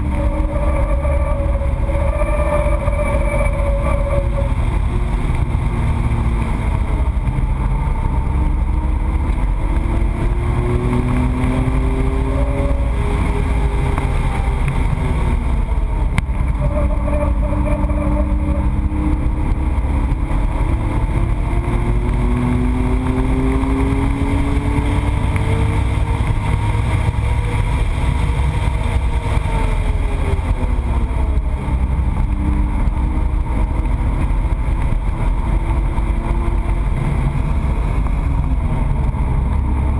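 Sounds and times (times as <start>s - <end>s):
race car engine accelerating: 0.0s - 39.9s
road noise: 0.0s - 39.9s
wind noise: 0.0s - 39.9s.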